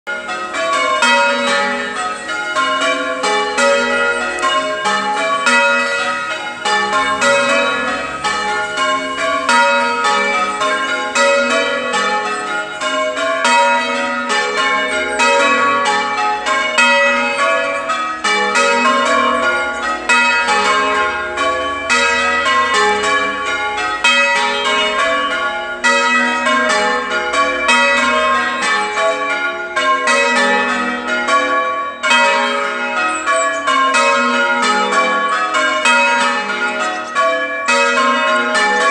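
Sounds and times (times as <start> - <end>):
church bells change ringing: 0.1 - 38.9.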